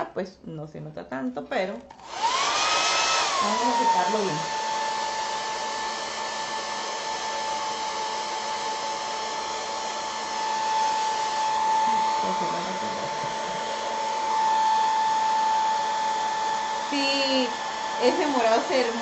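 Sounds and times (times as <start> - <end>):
hair dryer blowing: 1.9 - 19.0.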